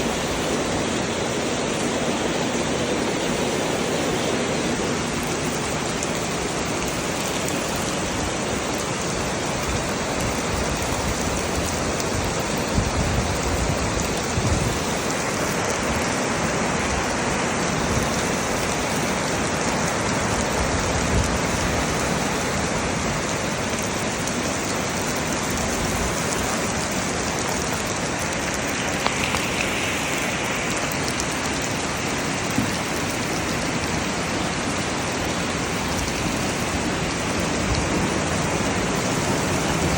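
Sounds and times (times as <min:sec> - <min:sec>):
heavy rain in a forest: 0:00.0 - 0:39.9
knocks of large raindrops: 0:00.0 - 0:39.9.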